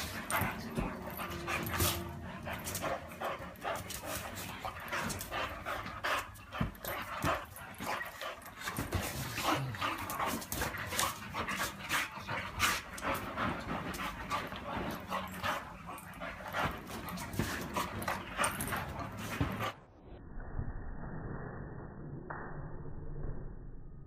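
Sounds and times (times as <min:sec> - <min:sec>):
dogs breathing and mouth noises: 0:00.0 - 0:20.0.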